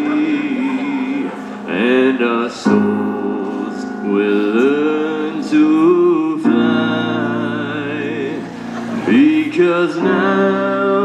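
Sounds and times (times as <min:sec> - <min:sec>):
keyboard chords: 0:00.0 - 0:11.0
person singing pop ballad: 0:00.0 - 0:11.0.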